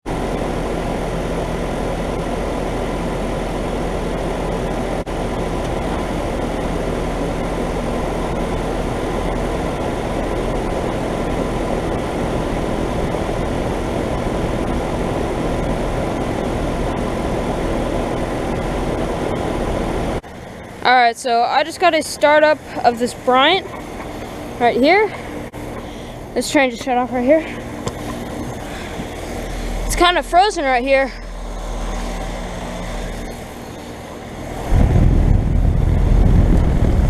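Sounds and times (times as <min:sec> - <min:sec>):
fan rushing: 0:00.0 - 0:37.0
low compressor hum: 0:00.1 - 0:37.0.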